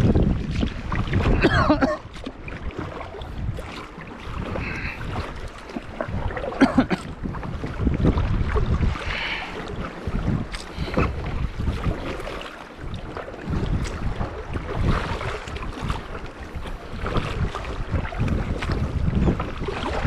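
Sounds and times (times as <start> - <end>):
kayak paddle splashing water: 0.0 - 20.0
wind buffeting microphone: 0.0 - 20.0.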